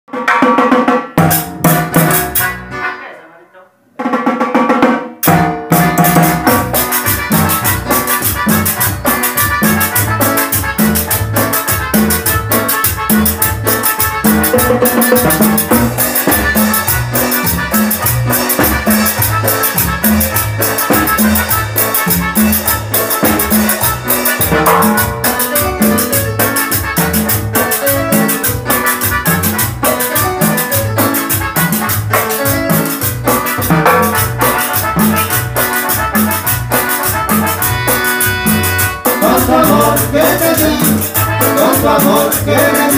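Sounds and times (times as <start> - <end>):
drum kit hits: 0.1 - 2.6, 4.0 - 42.9
band playing dance groove: 0.1 - 3.1, 4.0 - 42.9.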